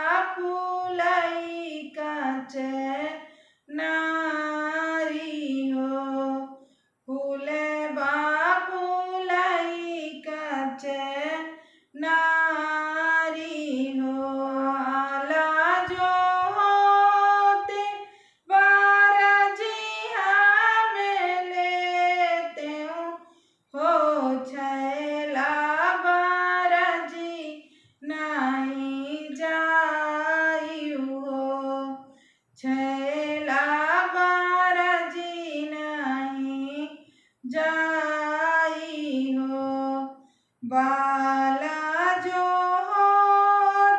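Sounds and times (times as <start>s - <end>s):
woman singing unaccompanied: 0.0s - 43.9s.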